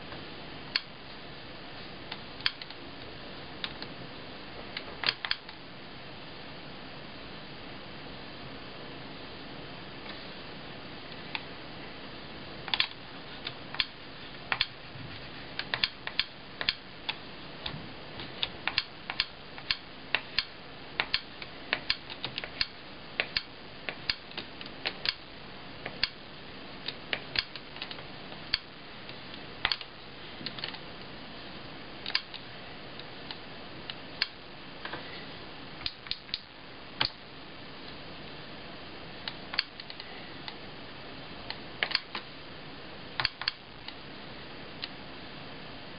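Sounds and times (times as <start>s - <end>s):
steady background hiss: 0.0s - 45.9s.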